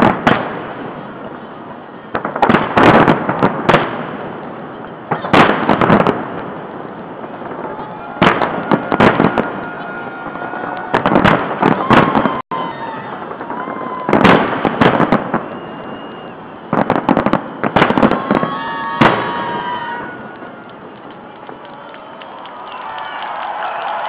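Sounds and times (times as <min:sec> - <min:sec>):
fireworks bangs and crackle: 0:00.0 - 0:24.0.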